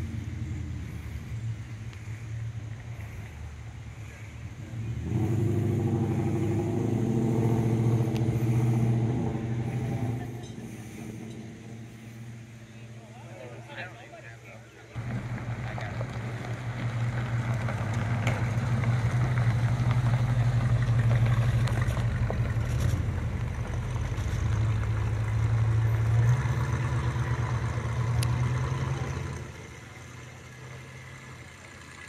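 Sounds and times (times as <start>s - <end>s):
car engine and exhaust rumbling: 0.0s - 32.0s.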